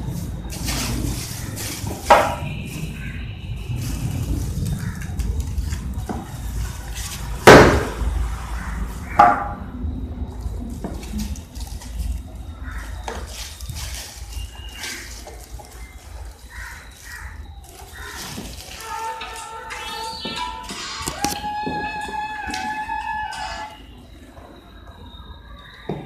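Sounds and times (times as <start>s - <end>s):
foam packing rustling and scraping: 0.0s - 9.1s, 10.4s - 23.8s.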